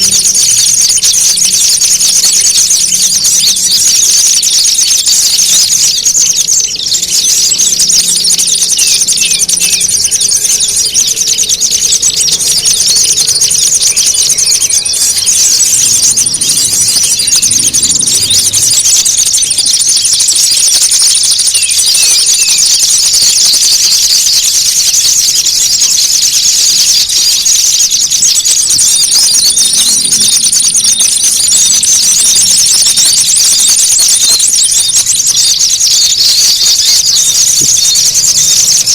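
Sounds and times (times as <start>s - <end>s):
thin steady high tone: 0.0s - 23.4s, 24.0s - 38.9s
small birds chattering and twittering: 0.0s - 38.9s.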